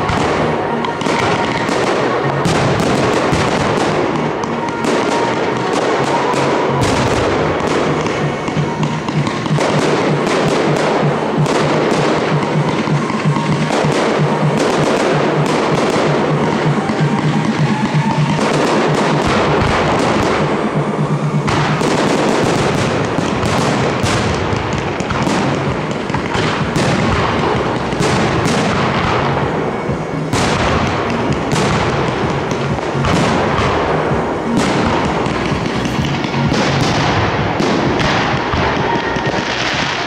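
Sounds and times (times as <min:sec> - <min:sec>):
fireworks bangs and crackle: 0:00.0 - 0:40.0
show music: 0:00.0 - 0:40.0.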